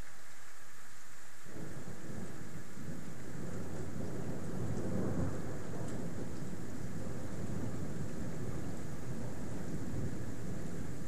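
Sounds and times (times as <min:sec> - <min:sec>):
rain hissing: 0:00.0 - 0:11.0
rolling thunder: 0:01.5 - 0:11.0.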